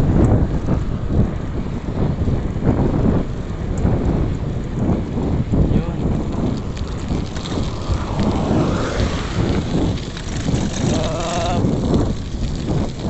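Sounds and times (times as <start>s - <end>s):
bicycle road rumble: 0.0s - 13.0s
wind buffeting microphone: 0.0s - 13.0s.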